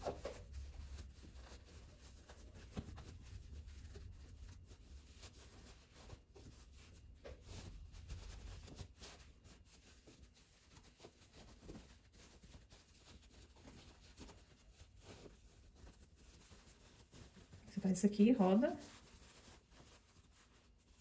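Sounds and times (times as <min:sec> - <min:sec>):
fabric rustling: 0:00.0 - 0:21.0.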